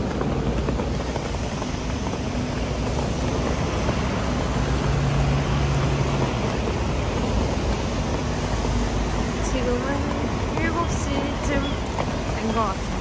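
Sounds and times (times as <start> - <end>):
bus engine humming: 0.0 - 13.0
heavy rain: 0.0 - 13.0
traffic on wet street: 0.0 - 13.0.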